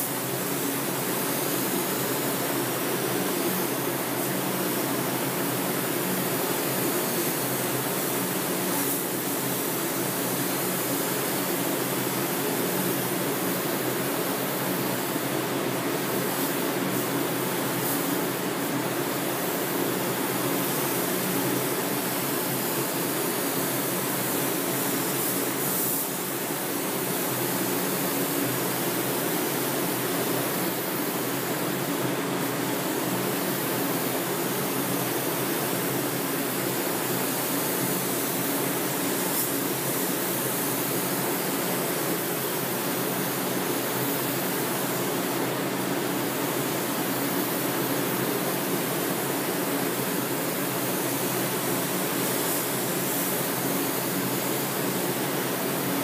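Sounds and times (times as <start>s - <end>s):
spray gun air hiss: 0.0s - 56.0s
ventilation fans droning: 0.0s - 56.0s.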